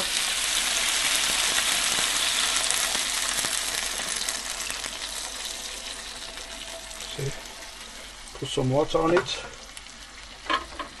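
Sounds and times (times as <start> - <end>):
water hissing in a hot pot: 0.0 - 11.0.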